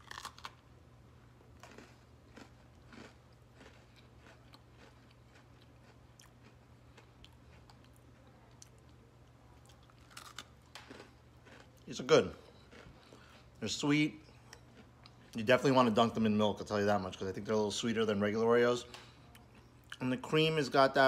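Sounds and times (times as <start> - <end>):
cookie bite and crunchy chewing: 0.0 - 16.2, 18.9 - 20.3.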